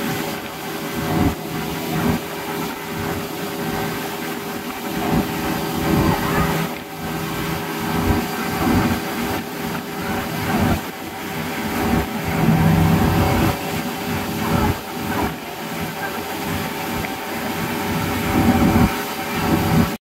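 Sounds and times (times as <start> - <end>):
motorboat engine running: 0.0 - 20.0
water and wind rushing: 0.0 - 20.0.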